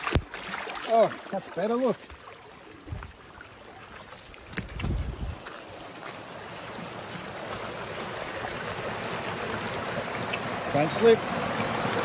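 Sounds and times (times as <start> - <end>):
water rushing from drain: 0.0 - 12.0.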